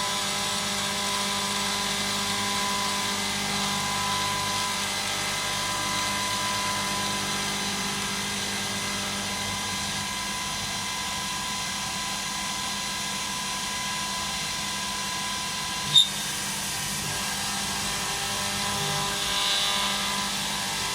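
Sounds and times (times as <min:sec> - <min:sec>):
milling machine whine: 0:00.0 - 0:20.9.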